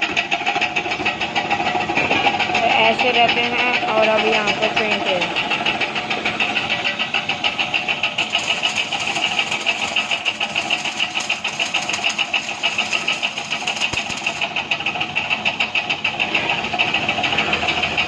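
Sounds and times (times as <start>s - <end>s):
machine running with fast pulse: 0.0s - 18.0s.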